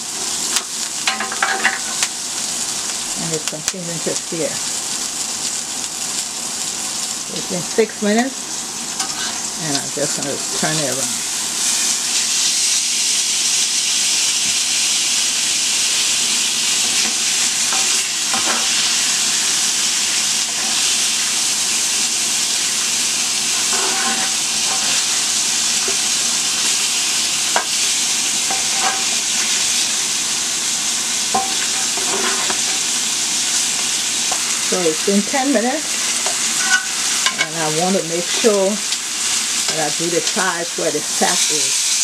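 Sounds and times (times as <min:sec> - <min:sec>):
steak sizzling in a skillet: 0:00.0 - 0:42.0.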